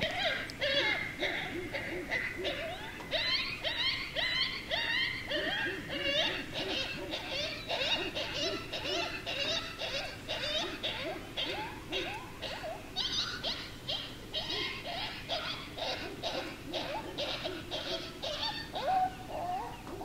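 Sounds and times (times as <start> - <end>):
chorus of animal calls: 0.0 - 20.0.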